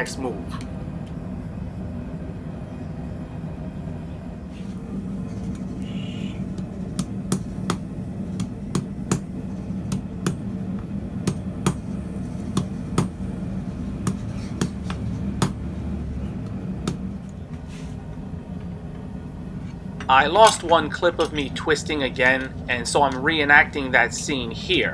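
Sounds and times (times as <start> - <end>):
gas forge hum: 0.0 - 24.9.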